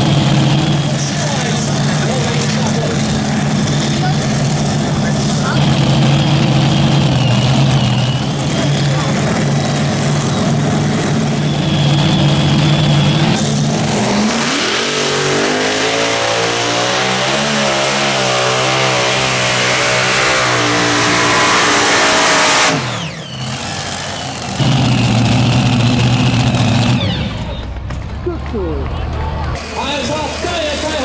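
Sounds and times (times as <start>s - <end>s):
pulling tractor engine revving: 0.0s - 31.0s.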